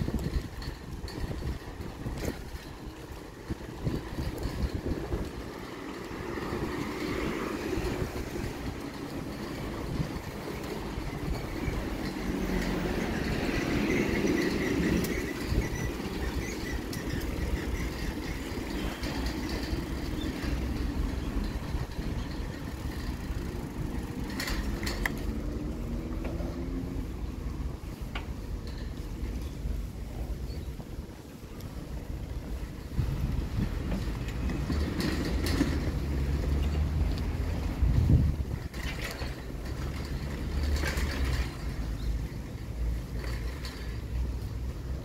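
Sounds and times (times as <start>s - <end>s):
road traffic rumble: 0.0s - 45.0s.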